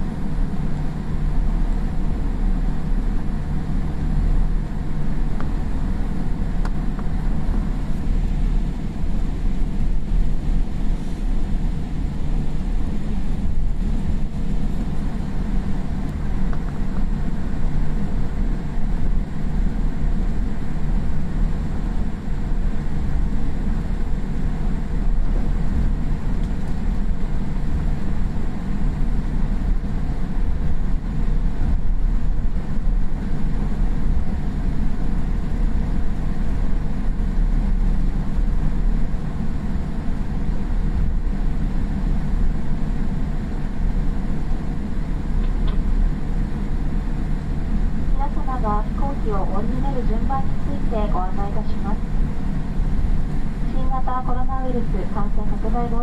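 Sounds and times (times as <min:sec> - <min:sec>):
aircraft engines idling in cabin: 0:00.0 - 0:56.0
constant low hum: 0:00.0 - 0:56.0.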